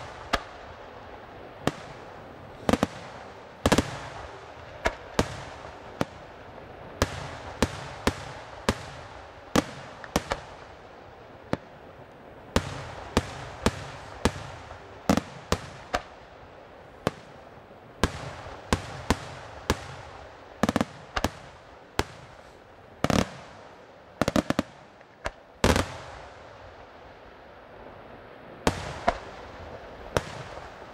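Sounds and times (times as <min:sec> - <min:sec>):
fireworks bursting with sharp bangs: 0:00.0 - 0:30.9.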